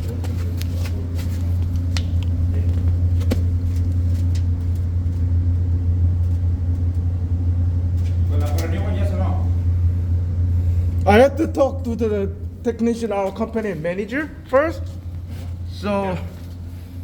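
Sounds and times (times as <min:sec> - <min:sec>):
machinery low hum: 0:00.0 - 0:17.0.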